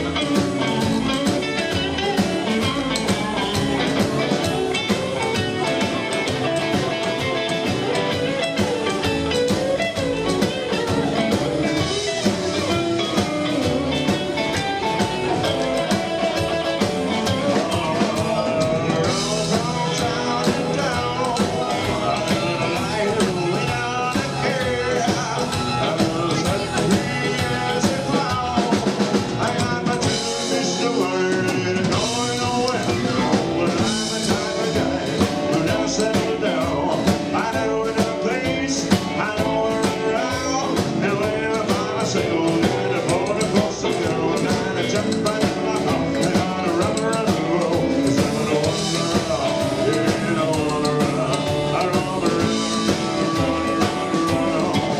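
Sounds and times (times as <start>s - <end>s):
drum kit: 0.0s - 54.9s
electric guitar: 0.0s - 54.9s
keyboard: 0.0s - 54.9s
person singing: 0.0s - 54.9s.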